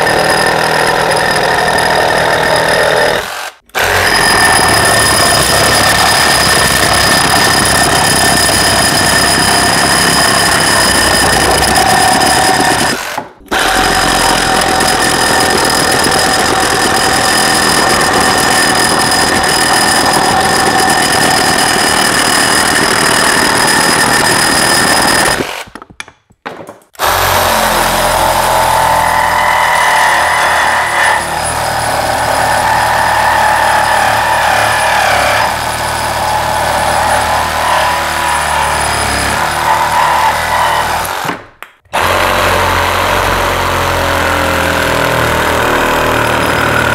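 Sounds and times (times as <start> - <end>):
reciprocating saw cutting: 0.0 - 25.8, 27.0 - 46.9.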